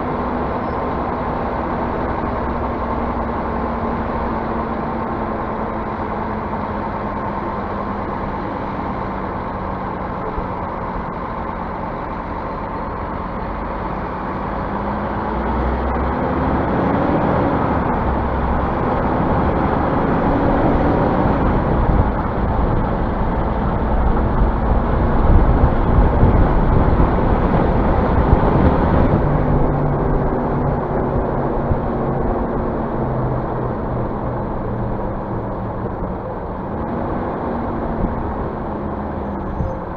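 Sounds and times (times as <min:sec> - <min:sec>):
bus diesel engine: 0:00.0 - 0:39.9
low road rumble: 0:00.0 - 0:39.9.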